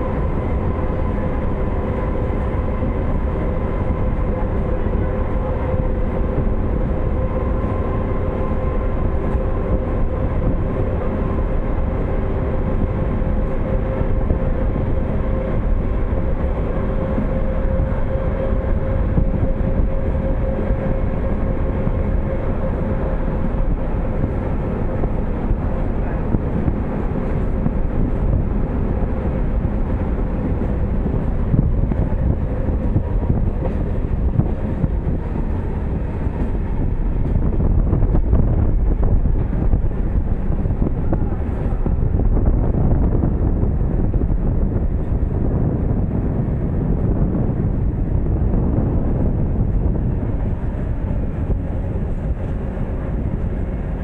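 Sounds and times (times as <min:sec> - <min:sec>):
held whine: 0:00.0 - 0:54.0
train rumbling on rails: 0:00.0 - 0:54.0.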